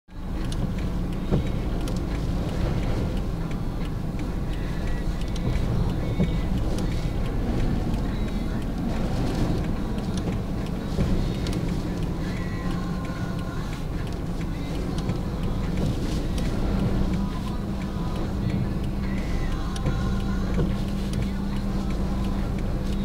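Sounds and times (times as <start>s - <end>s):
car engine idling rumble: 0.1s - 23.0s
faint ticks: 0.1s - 23.0s.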